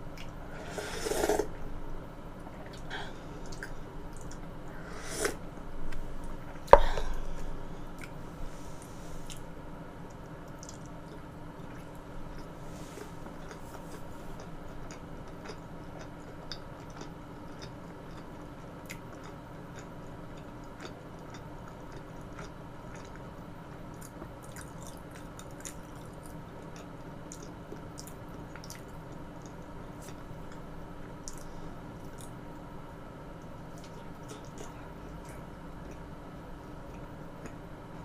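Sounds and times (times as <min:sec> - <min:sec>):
person chewing food: 0:02.4 - 0:08.2, 0:10.1 - 0:32.4, 0:33.5 - 0:36.1.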